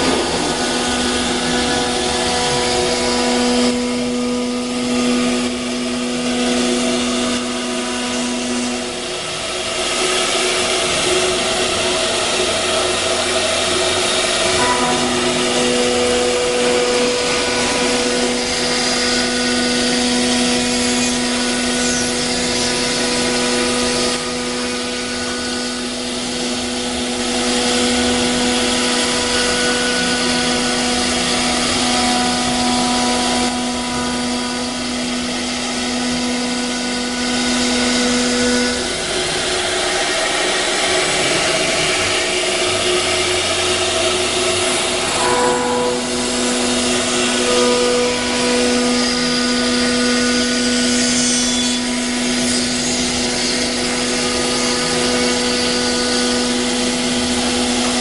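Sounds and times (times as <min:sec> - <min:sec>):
cutter working material: 0:00.0 - 0:58.0
router spindle whine: 0:00.0 - 0:58.0.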